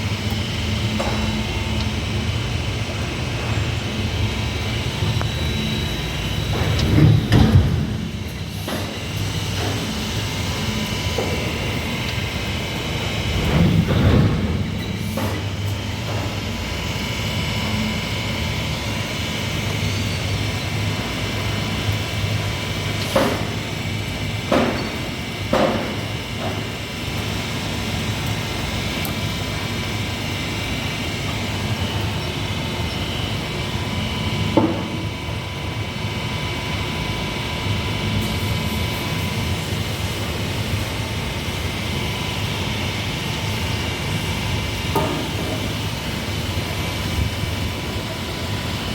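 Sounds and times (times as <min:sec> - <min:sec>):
machinery humming: 0:00.0 - 0:48.9.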